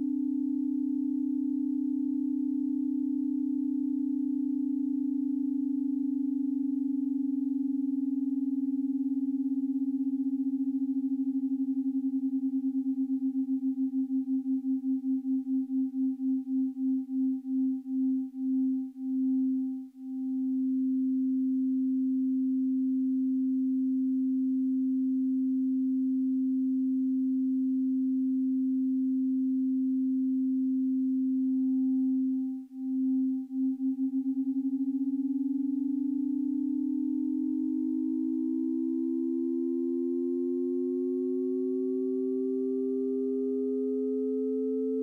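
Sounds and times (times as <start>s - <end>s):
low pulsing sine tone: 0.0s - 45.0s.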